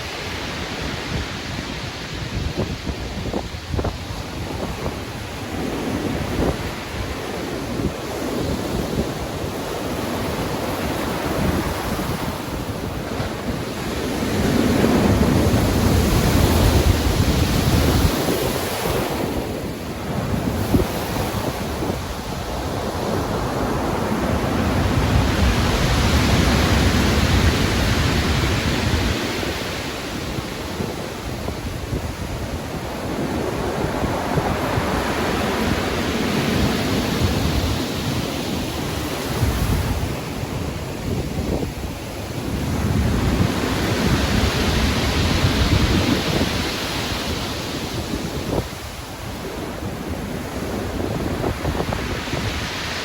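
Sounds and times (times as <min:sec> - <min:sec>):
steady wind: 0:00.0 - 0:53.0
waves surging and breaking: 0:00.0 - 0:53.0.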